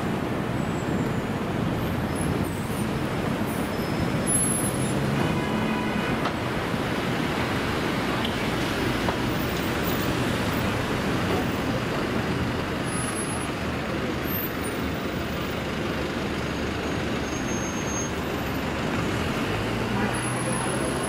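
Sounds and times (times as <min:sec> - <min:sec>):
vehicles on the road: 0:00.0 - 0:21.0.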